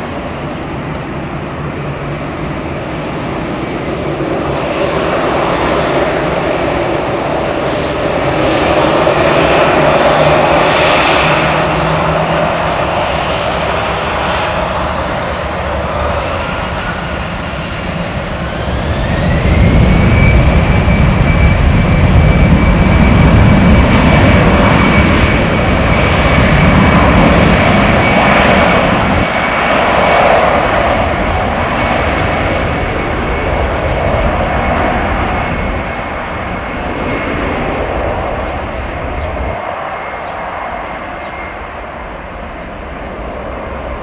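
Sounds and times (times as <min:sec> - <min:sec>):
deep jet rumble: 0:00.0 - 0:44.0
jet engine whine: 0:00.0 - 0:44.0.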